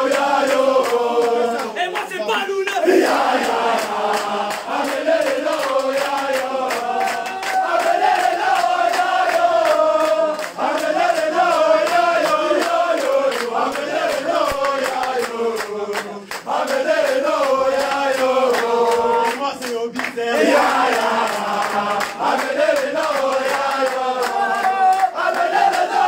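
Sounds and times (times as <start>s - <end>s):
men chanting and singing in unison: 0.0s - 26.0s.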